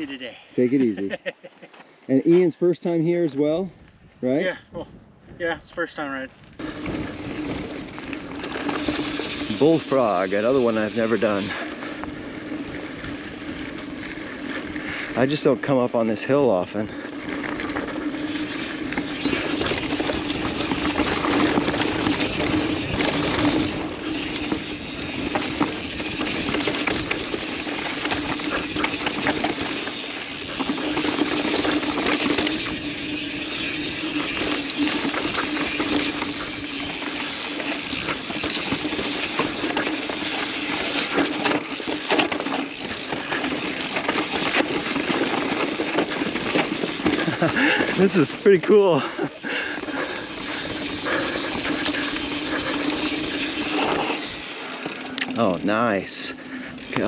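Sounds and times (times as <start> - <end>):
bike clattering over bumps: 6.6 - 57.0
tyres rolling over dirt: 6.6 - 57.0.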